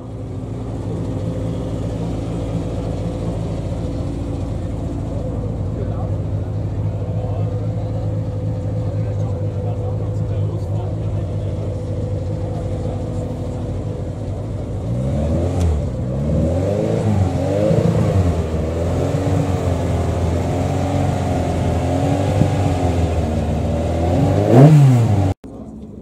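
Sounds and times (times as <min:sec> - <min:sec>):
racing car engine revving: 0:00.0 - 0:25.8.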